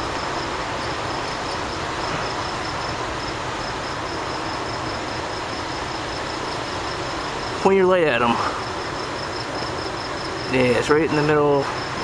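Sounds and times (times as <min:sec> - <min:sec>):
crickets chirping: 0:00.0 - 0:12.0
night background hiss: 0:00.0 - 0:12.0.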